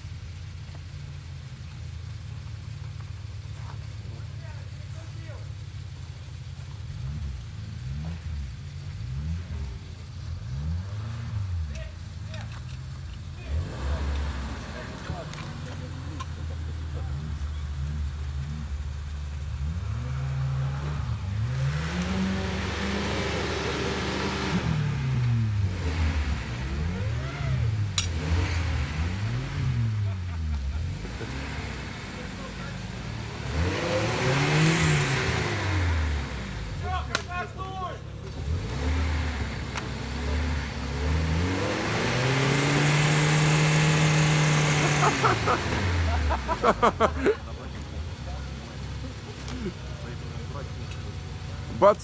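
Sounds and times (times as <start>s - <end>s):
off-road engine revving: 0.0s - 52.0s.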